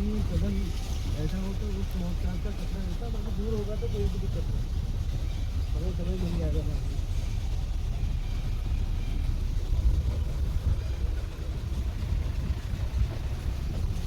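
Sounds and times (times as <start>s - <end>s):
jeep engine rumbling: 0.0s - 14.0s.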